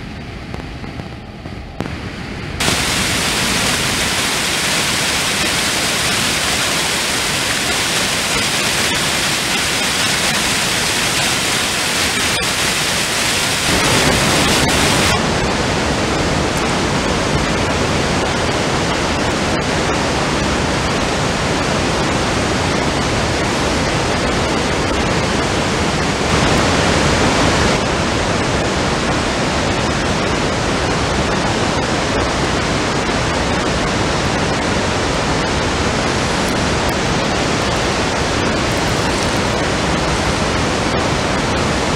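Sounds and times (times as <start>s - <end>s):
floodwater rushing: 1.8s - 41.9s.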